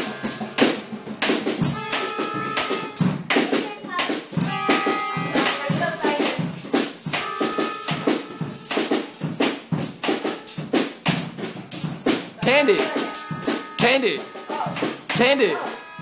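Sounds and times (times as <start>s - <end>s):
held keyboard notes: 0.0s - 16.0s
tambourine beat: 0.0s - 16.0s.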